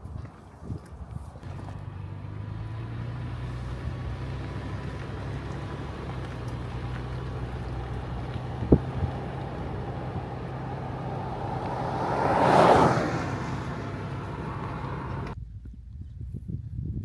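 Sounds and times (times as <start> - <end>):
road noise: 0.3 - 15.4
car engine drone: 1.4 - 15.4.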